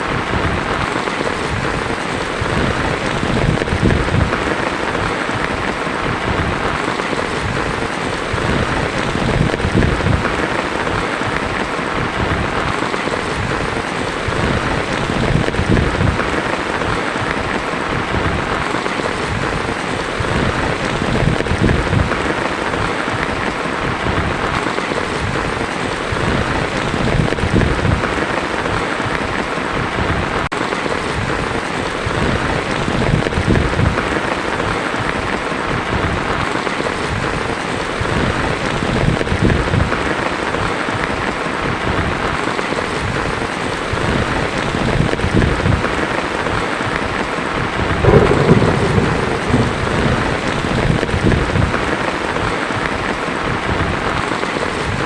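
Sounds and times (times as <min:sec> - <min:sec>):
thunder rumbling: 0:00.0 - 0:30.4, 0:31.0 - 0:39.9, 0:47.6 - 0:54.2
heavy rain on a tin roof: 0:00.0 - 0:55.0.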